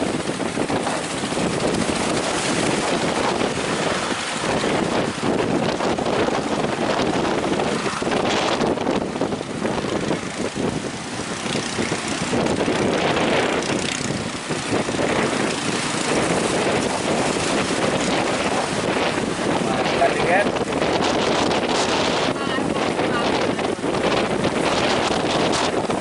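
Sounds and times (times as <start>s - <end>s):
sea surf: 0.0s - 26.0s
wind on microphone: 0.0s - 26.0s.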